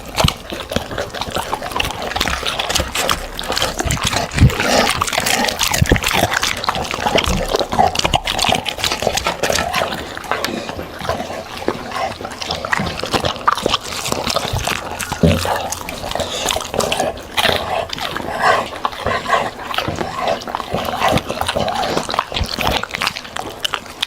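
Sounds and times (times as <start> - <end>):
dog chewing food: 0.0 - 24.0.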